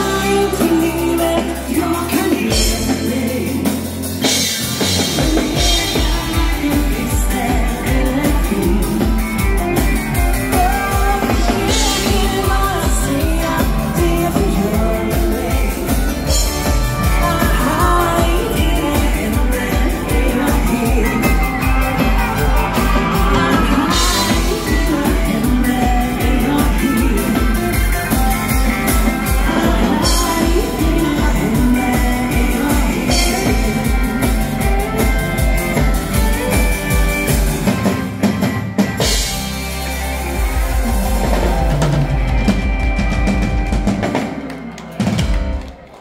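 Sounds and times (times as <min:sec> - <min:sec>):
woman singing: 0:00.0 - 0:37.0
bass drum beat: 0:00.0 - 0:45.9
keyboards: 0:00.0 - 0:46.0.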